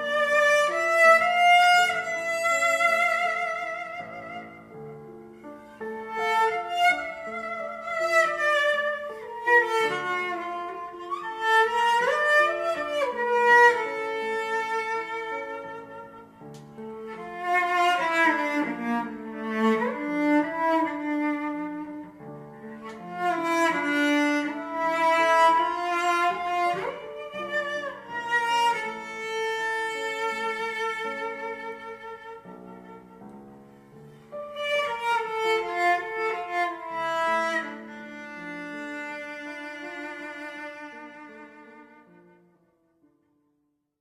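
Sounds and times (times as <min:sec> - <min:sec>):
violin and cello melody: 0:00.0 - 0:42.6.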